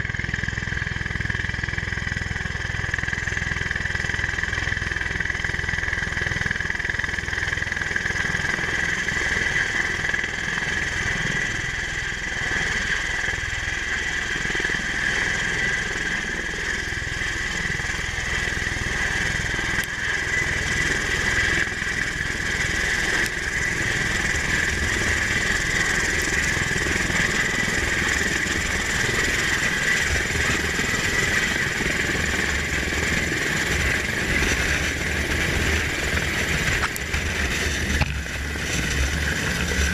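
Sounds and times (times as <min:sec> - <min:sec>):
aircraft engines and rotors running: 0:00.0 - 0:39.9.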